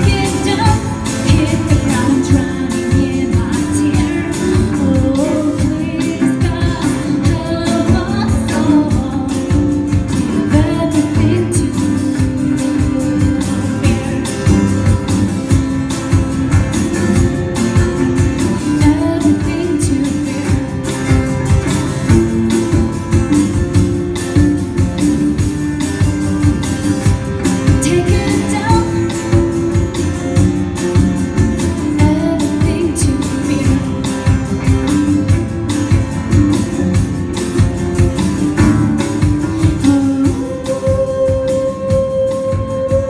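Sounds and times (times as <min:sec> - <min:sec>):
song with singing and guitar: 0:00.0 - 0:43.0.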